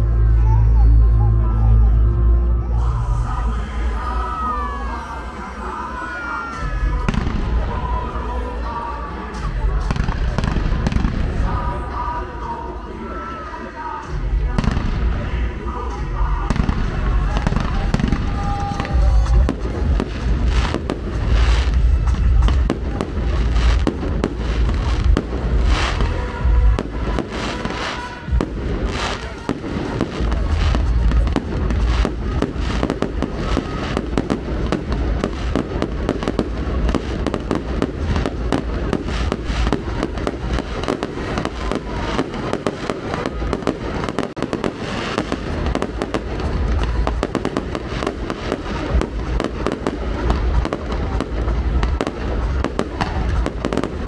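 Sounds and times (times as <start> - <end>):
fireworks crackling and banging: 2.7 - 54.0
fireworks low booms: 6.6 - 12.5, 14.1 - 54.0.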